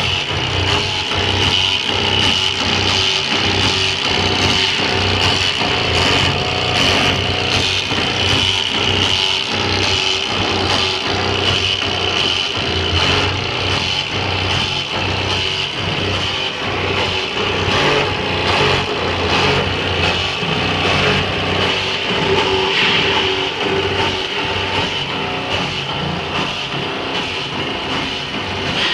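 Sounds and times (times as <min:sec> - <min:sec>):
vehicle engine with high whine: 0:00.0 - 0:28.9.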